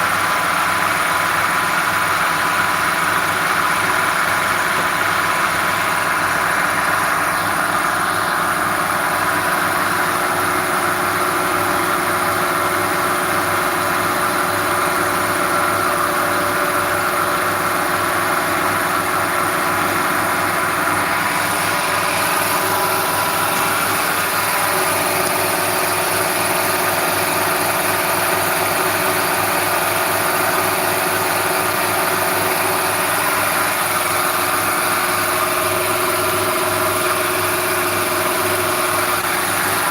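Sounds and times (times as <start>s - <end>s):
machine motor humming: 2.1s - 39.9s.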